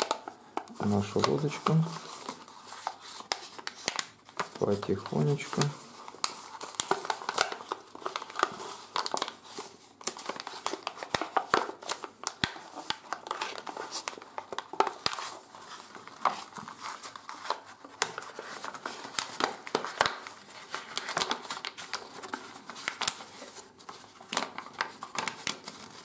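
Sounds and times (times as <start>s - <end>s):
paper crinkling and crackling: 0.0s - 26.0s.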